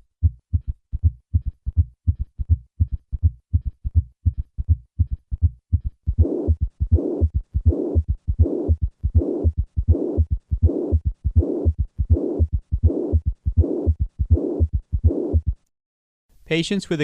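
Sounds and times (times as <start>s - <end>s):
heartbeat with murmur: 0.0s - 15.7s.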